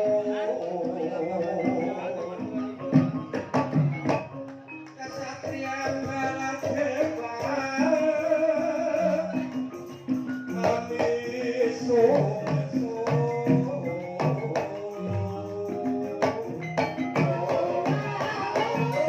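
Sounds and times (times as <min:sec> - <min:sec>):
gamelan music: 0:00.0 - 0:19.0.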